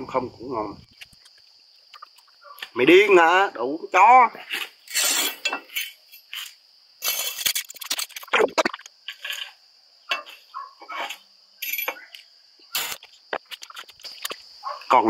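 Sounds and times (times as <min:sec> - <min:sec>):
insect chirr: 0:00.0 - 0:15.0.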